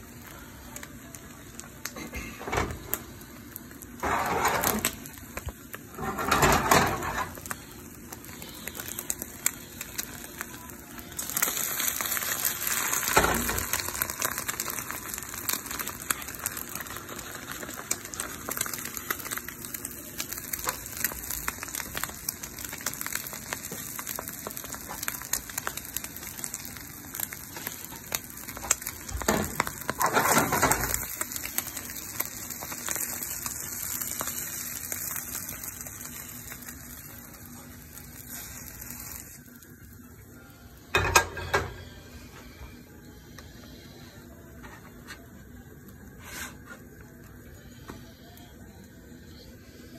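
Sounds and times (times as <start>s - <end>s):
eggs sizzling in a pan: 0.0s - 49.9s.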